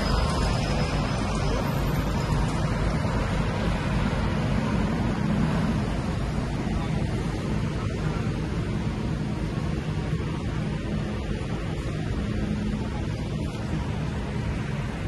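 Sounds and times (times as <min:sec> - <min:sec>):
bus engine running: 0:00.0 - 0:15.0
road traffic noise: 0:00.0 - 0:15.0.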